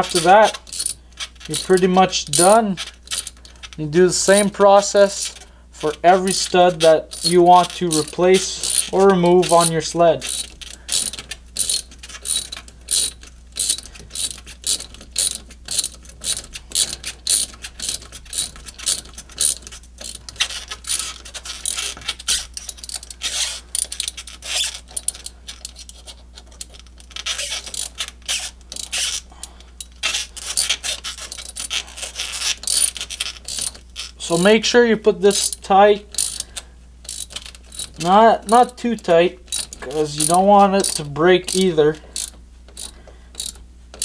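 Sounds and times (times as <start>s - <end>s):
ratchet wrench clicking: 0.0s - 44.0s.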